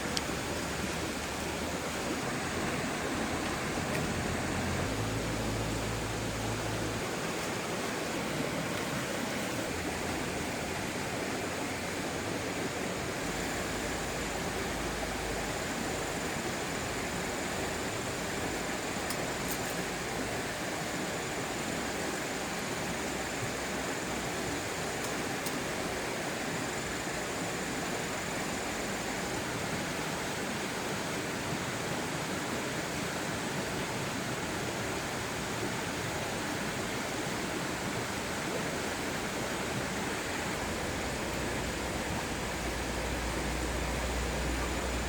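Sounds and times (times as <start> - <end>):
stream water rushing: 0.0 - 45.0.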